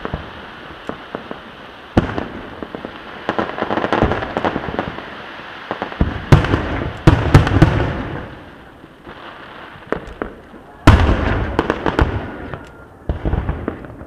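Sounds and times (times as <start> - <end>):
fireworks booms: 0.0 - 14.0
fireworks crackling bursts: 0.0 - 14.0.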